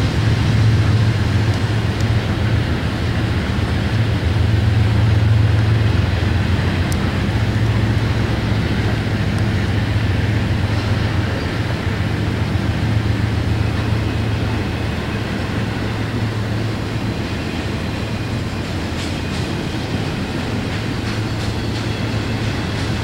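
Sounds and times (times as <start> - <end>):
diesel locomotive drone: 0.0 - 23.0
wheels rumbling on rail: 0.0 - 23.0.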